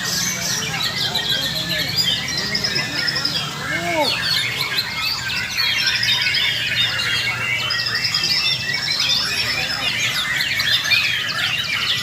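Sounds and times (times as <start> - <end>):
songbirds singing in chorus: 0.0 - 12.0.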